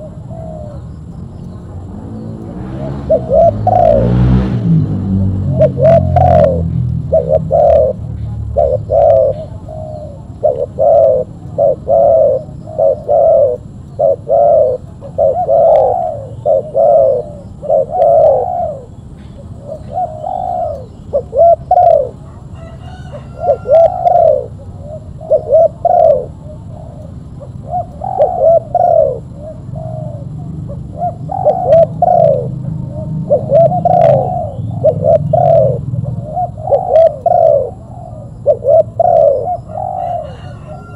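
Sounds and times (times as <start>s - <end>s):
dove cooing: 0.0s - 4.2s, 5.3s - 40.9s.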